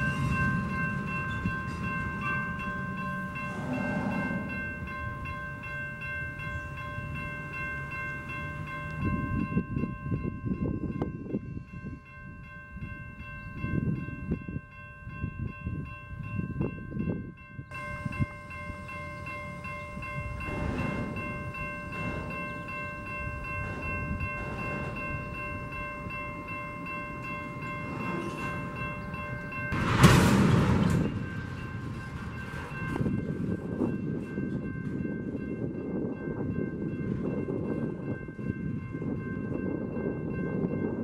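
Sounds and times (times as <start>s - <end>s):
freight train rumbling by: 0.0s - 41.0s.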